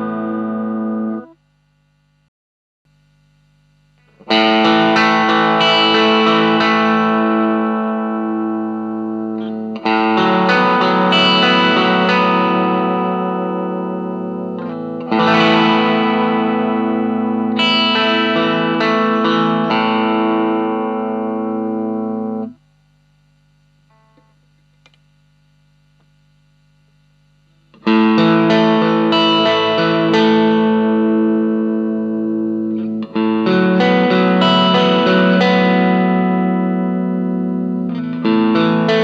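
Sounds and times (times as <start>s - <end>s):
overdriven electric guitar chords: 0.0s - 1.4s, 3.1s - 22.6s, 27.5s - 39.0s
faint amp hum: 0.0s - 2.3s, 2.9s - 39.0s.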